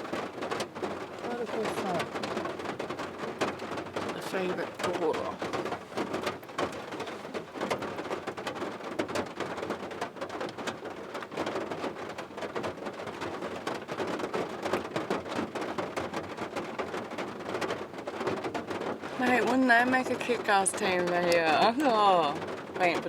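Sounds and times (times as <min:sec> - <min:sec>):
rain drops pattering: 0:00.0 - 0:23.0.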